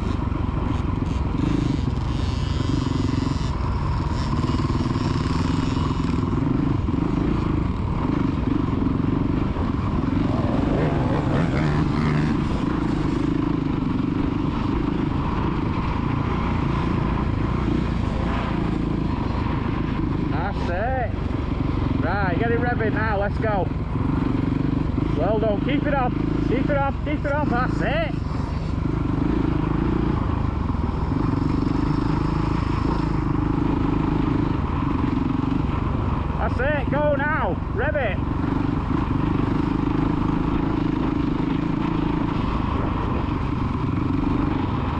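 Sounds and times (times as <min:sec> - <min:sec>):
motocross bike engine running: 0:00.0 - 0:44.9.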